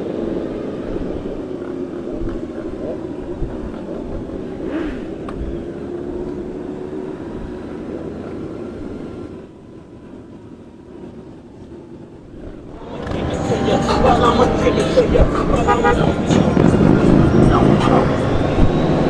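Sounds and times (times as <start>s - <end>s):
motorcycle engine drone: 0.0s - 19.0s
wind and road noise: 0.0s - 19.0s.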